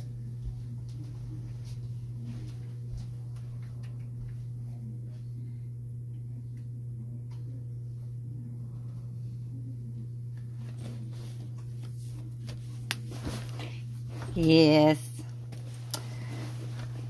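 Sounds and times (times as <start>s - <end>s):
room tone hum: 0.0s - 17.0s.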